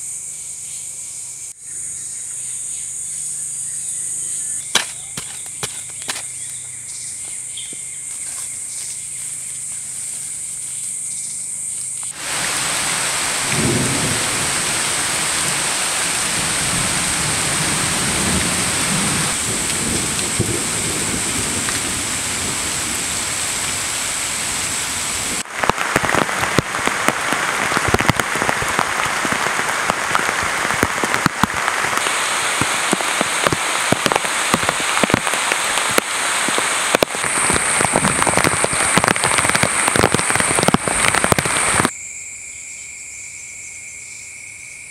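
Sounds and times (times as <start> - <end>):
rain hiss: 4.2 - 42.0
raindrops pattering on leaves: 4.7 - 41.9.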